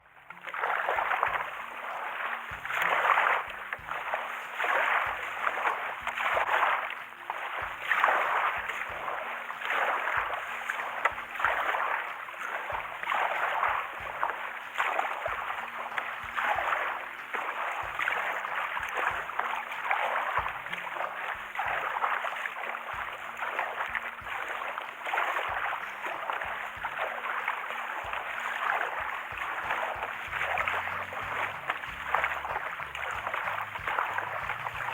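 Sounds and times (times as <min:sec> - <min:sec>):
water splashing around kayak: 0:00.0 - 0:34.9.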